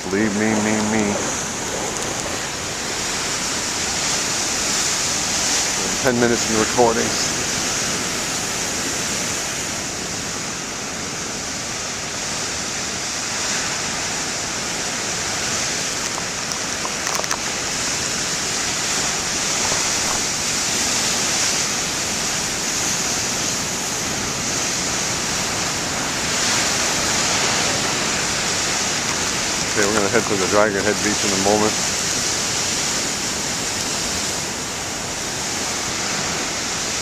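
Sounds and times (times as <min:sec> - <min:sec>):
heavy ocean waves breaking: 0:00.0 - 0:37.0.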